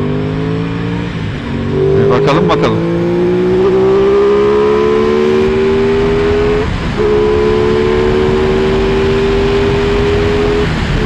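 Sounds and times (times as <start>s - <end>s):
motorcycle engine accelerating: 0.0s - 11.0s
wind rumble on microphone: 1.0s - 11.0s.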